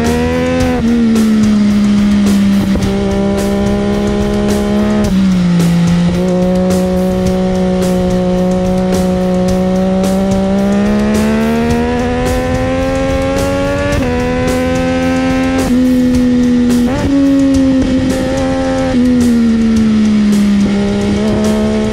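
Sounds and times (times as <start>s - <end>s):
motorcycle engine at speed: 0.0s - 21.9s.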